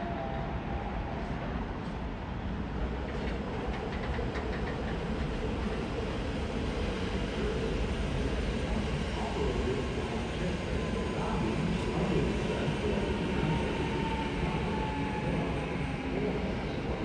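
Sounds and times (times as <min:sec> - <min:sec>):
train rumbling: 0:00.2 - 0:17.0.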